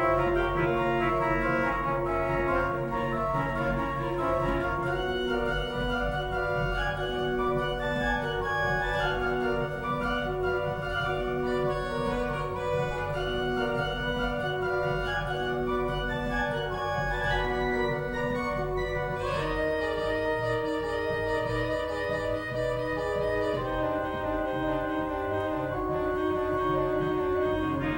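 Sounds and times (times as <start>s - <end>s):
pipe organ playing: 0.0s - 27.9s.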